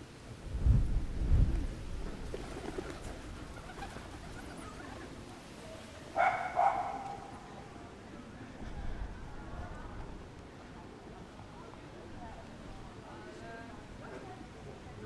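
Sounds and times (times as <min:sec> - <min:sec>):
faint street ambience: 0:00.0 - 0:15.0.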